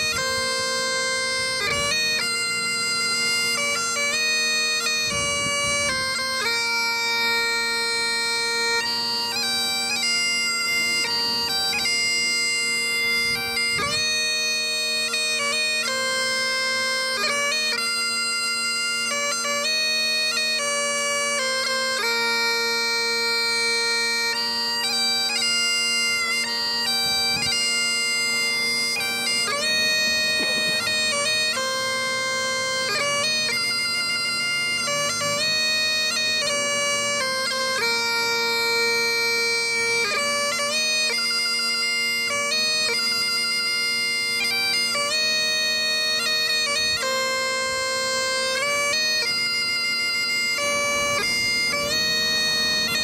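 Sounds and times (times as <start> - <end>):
bagpipes playing slow lament: 0.0 - 53.0.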